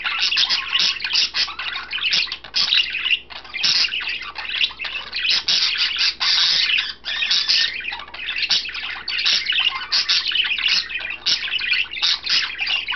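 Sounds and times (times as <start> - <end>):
budgerigar warbling and chirping: 0.0 - 12.9.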